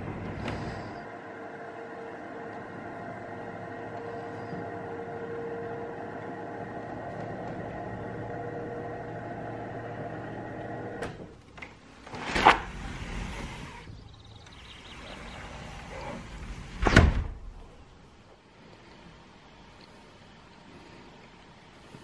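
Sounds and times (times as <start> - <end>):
sliding glass door sliding: 0.0 - 18.3
steady hum: 0.0 - 22.0.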